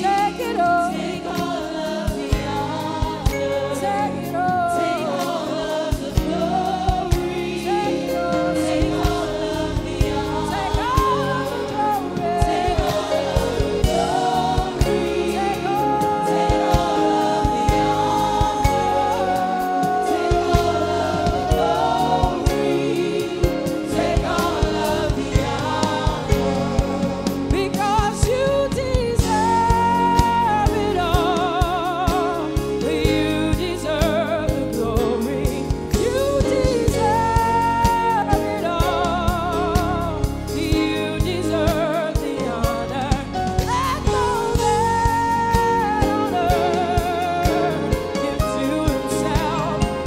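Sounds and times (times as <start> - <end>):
drum kit: 0.0 - 50.0
keyboards: 0.0 - 50.0
singers singing: 0.0 - 50.0
woman singing lead: 0.0 - 50.0.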